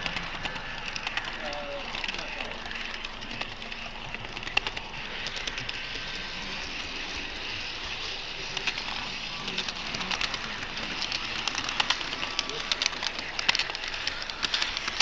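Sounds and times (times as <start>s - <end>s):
model train rolling on track: 0.0s - 15.0s
wheels clicking on rails: 0.0s - 15.0s.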